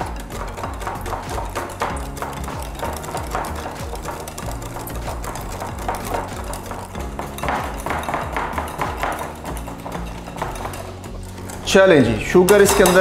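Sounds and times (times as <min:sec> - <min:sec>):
whisk clicking against glass bowl: 0:00.0 - 0:13.0.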